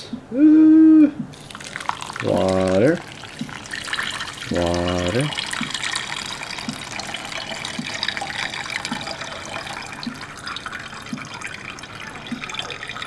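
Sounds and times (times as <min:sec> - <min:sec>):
water pouring and splashing: 0:01.3 - 0:13.0.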